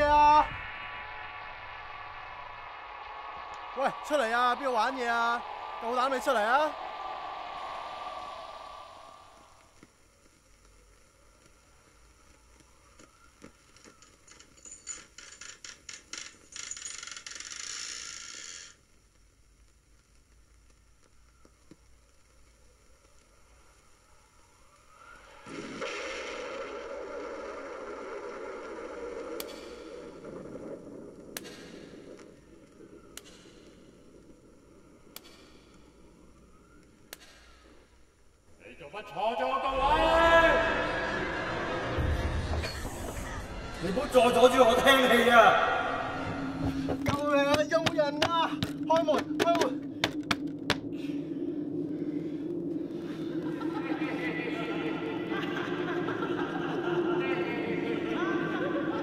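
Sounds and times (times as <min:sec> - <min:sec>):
low rumbling noise: 0:00.0 - 0:12.9, 0:22.2 - 0:59.0
steady hiss: 0:00.0 - 0:59.0.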